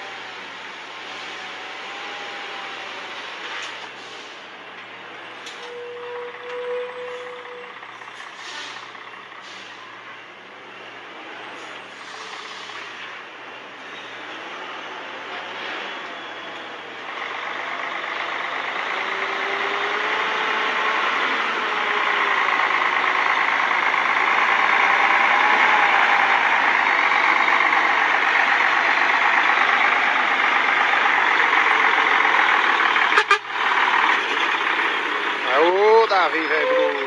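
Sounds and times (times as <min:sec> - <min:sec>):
truck diesel engine under load: 0:00.0 - 0:37.0.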